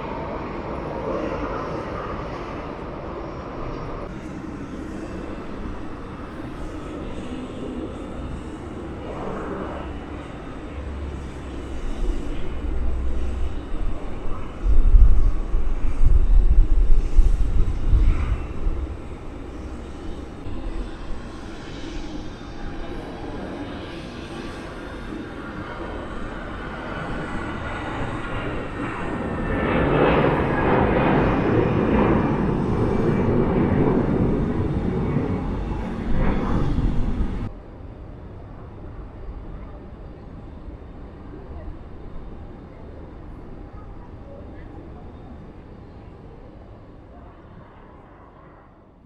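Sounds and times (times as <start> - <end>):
jet airliner engines rumbling: 0.0 - 49.0.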